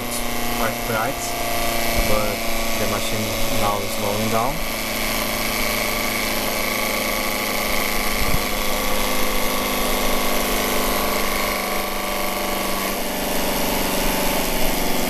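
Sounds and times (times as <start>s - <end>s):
magnet motor humming: 0.0s - 15.0s.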